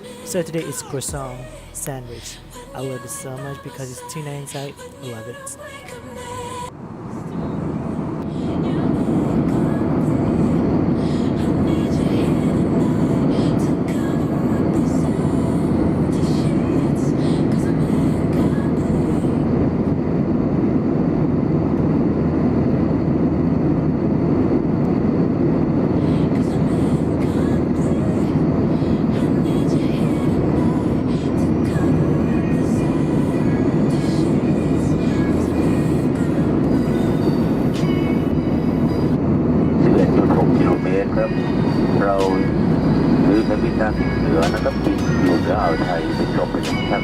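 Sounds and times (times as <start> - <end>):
airplane cabin engine rumble: 0.0 - 47.0.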